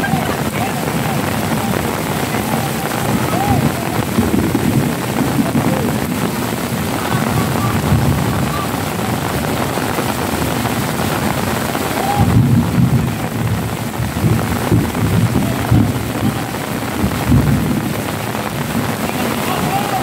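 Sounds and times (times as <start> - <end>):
low rumbling: 0.0 - 19.5
heavy rain falling: 0.0 - 20.0.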